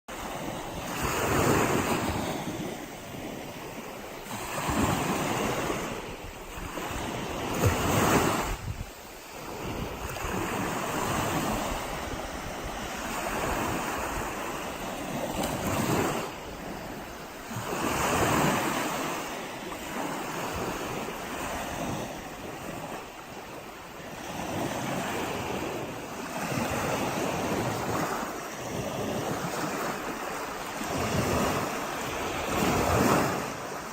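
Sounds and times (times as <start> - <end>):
waves breaking on a beach: 0.1 - 33.9.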